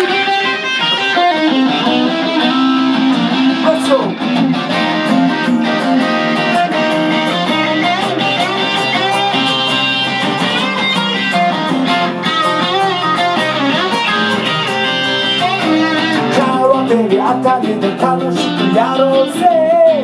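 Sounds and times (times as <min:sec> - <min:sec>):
lead guitar bending high notes: 0:00.0 - 0:20.0
strummed guitar chords: 0:00.0 - 0:20.0.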